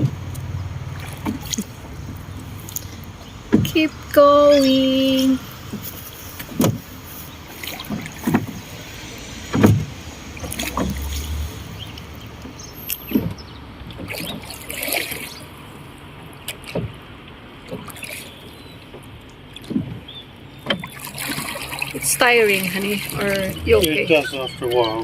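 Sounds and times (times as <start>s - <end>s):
faint water noise: 0.0s - 25.0s
oars knocking and swishing: 0.0s - 25.0s.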